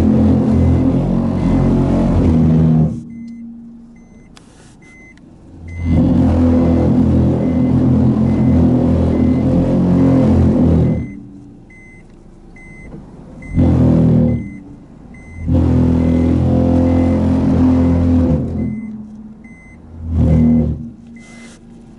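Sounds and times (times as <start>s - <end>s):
low groaning drone: 0.0s - 4.0s, 5.5s - 11.8s, 13.4s - 21.2s
reverse warning beeper: 0.0s - 21.6s.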